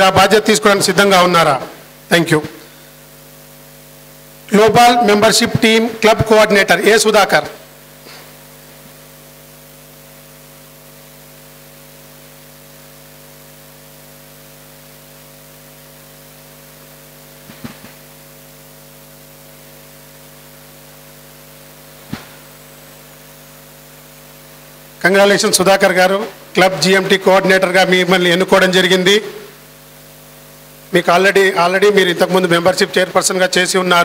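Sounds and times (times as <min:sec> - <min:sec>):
electrical mains hum with hiss: 0:00.0 - 0:34.0.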